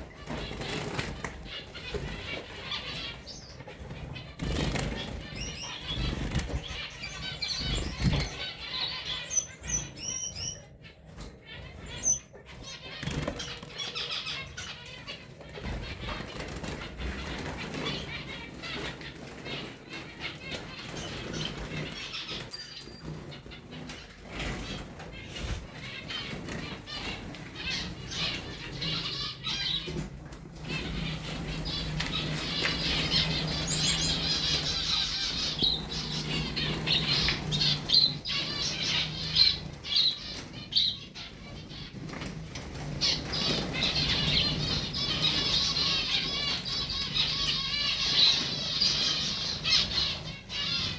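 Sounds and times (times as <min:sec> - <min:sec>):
finches chirping and twittering: 0:00.0 - 0:50.9.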